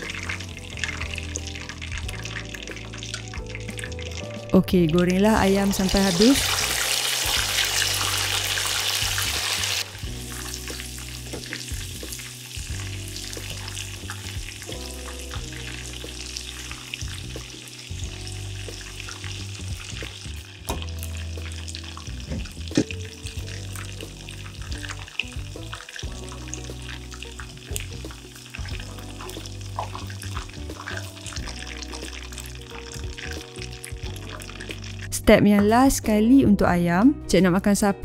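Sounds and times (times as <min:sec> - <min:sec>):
chicken deep-frying in oil: 0:00.0 - 0:35.2.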